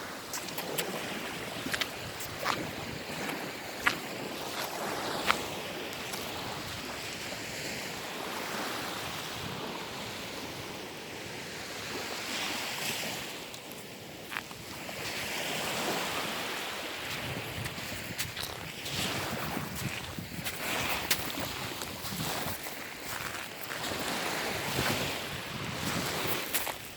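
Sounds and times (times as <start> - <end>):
sea surf washing ashore: 0.0 - 26.9.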